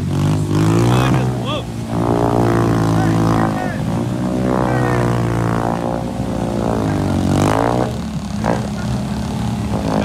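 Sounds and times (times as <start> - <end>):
atv engine at high revs: 0.0 - 10.0.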